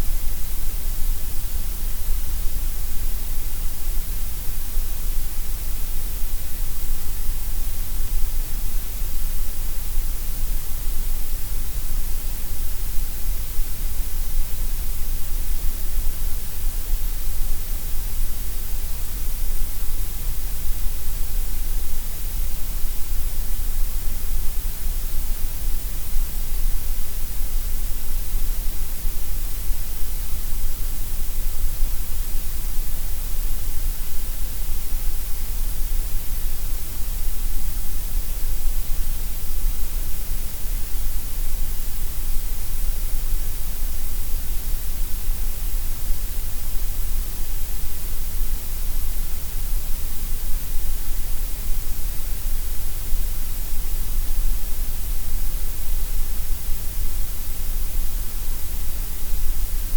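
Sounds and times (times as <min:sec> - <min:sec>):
gray noise hiss: 0:00.0 - 0:59.9.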